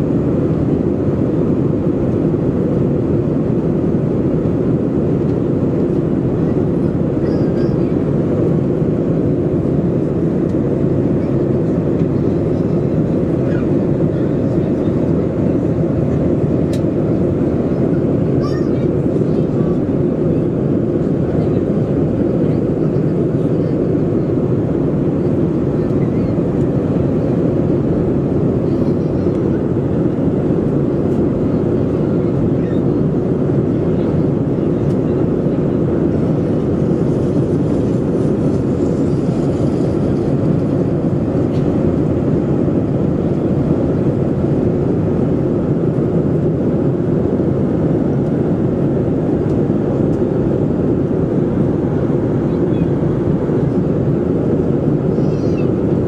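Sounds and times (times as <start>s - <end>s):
airplane cabin low rumble: 0.0s - 56.0s.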